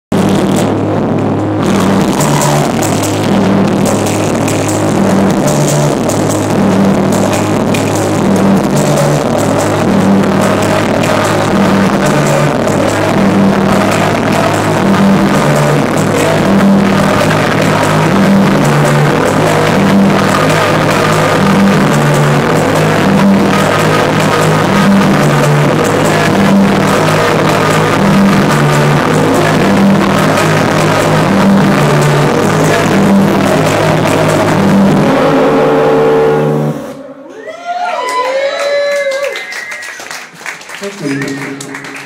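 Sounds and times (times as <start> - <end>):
repeating low bass line: 0.0 - 37.3
drum kit: 0.1 - 36.2
guitar: 0.2 - 37.4.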